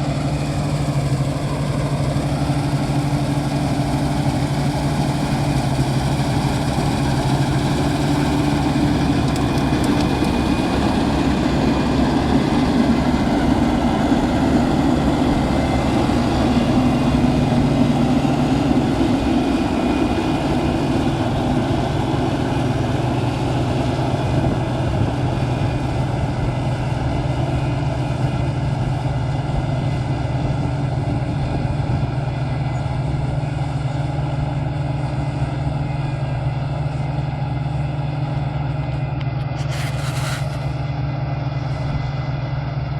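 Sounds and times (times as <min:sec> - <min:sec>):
combine harvester engine drone: 0:00.0 - 0:42.9.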